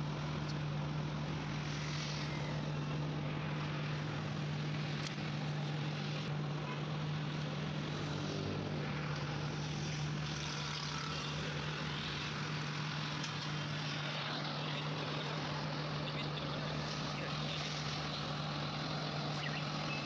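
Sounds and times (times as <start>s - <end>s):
machine hum with hiss: 0.0s - 20.0s.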